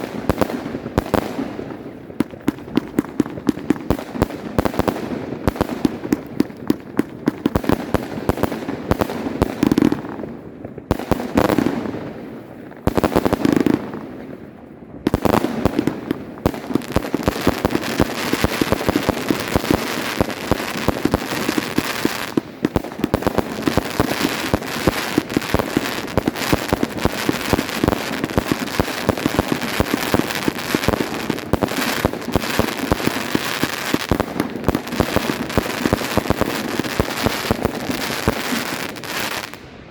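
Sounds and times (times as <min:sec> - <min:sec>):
firework battery bangs and crackling: 0:00.0 - 0:39.9.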